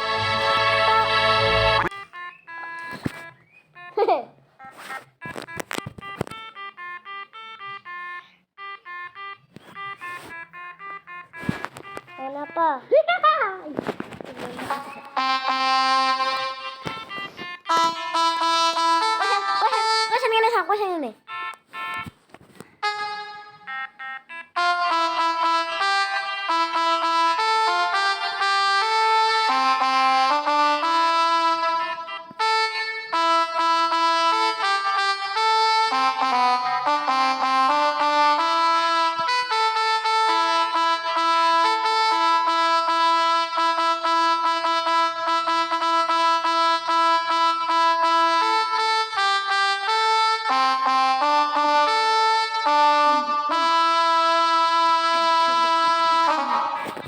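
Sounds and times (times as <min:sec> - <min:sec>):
melodica app playing held notes: 0:00.0 - 0:13.0, 0:13.8 - 0:57.0.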